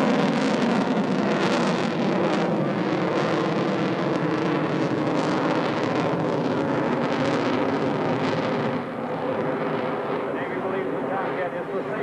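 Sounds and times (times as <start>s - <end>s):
jet fighter flying overhead: 0.0s - 12.0s.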